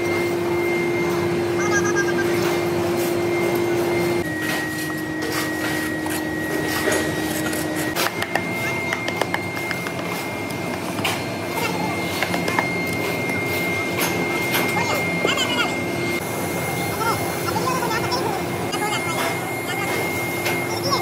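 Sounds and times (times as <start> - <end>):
machine humming and whining: 0.0 - 21.0.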